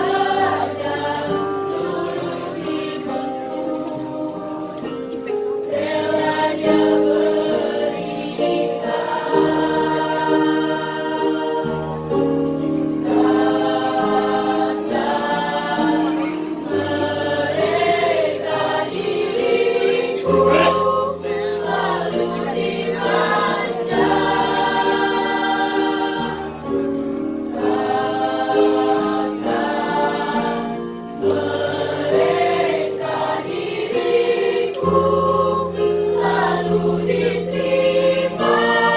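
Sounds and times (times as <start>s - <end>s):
girls choir singing in harmony: 0.0s - 38.9s.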